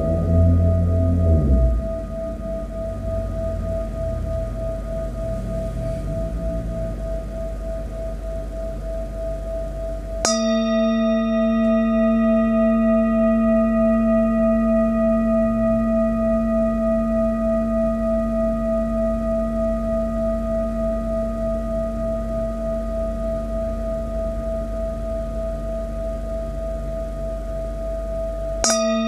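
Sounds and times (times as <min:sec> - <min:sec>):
singing bowl ringing: 0:00.0 - 0:29.0
singing bowl struck with mallet: 0:00.0 - 0:29.0.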